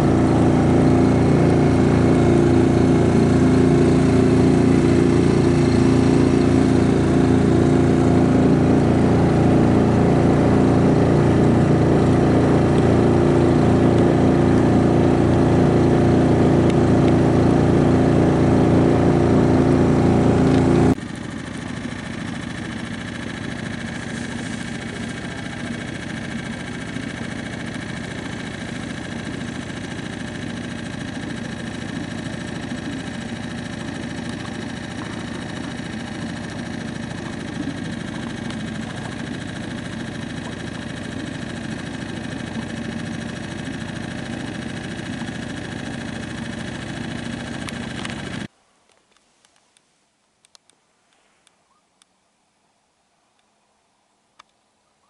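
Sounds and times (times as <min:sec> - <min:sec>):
boat motor running: 0:00.0 - 0:48.5.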